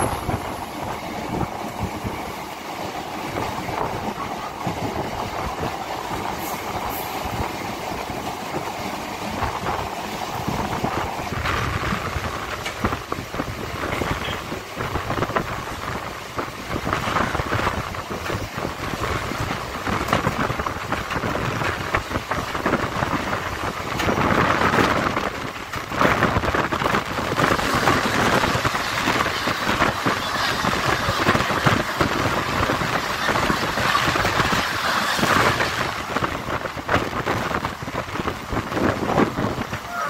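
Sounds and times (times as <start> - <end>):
train rattles and clicks: 0.0 - 40.0
wind and rail noise: 0.0 - 40.0.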